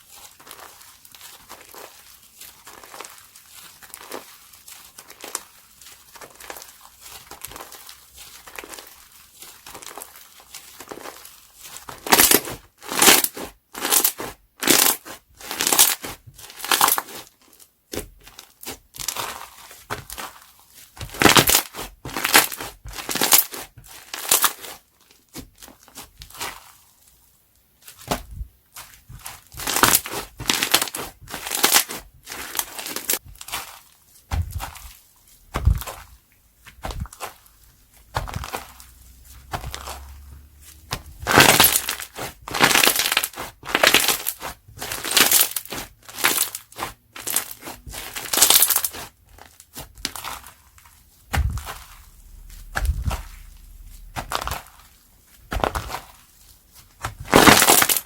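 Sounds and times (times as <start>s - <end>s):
crunchy slime squeezed by hand: 6.0s - 17.3s, 21.0s - 26.8s, 27.9s - 58.0s.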